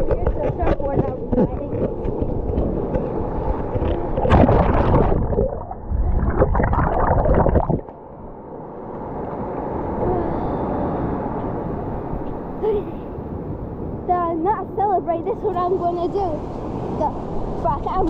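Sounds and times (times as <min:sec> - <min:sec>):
ocean water rushing: 0:00.0 - 0:18.0.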